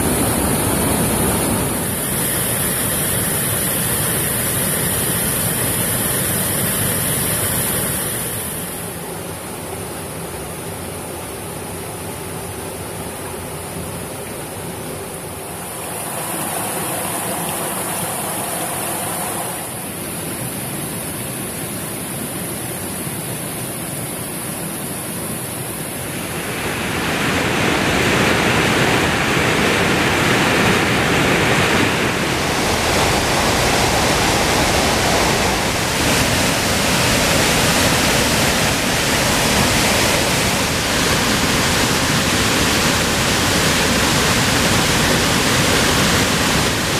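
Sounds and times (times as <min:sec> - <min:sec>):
white water rushing over rocks: 0:00.0 - 0:09.3, 0:14.7 - 0:46.9.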